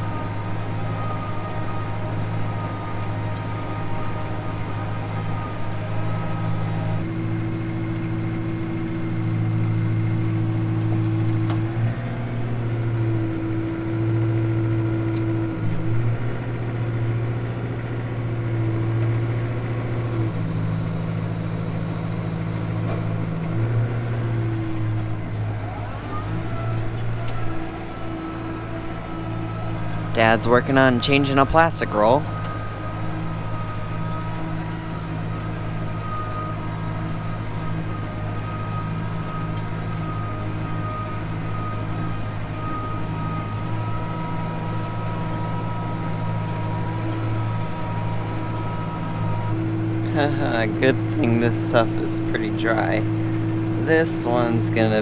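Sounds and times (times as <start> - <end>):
baler humming tone: 0.0 - 55.0
tractor engine under load: 0.0 - 55.0.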